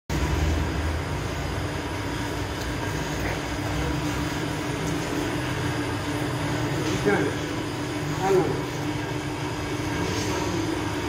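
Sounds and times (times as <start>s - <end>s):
bread oven machine drone: 0.1s - 11.0s.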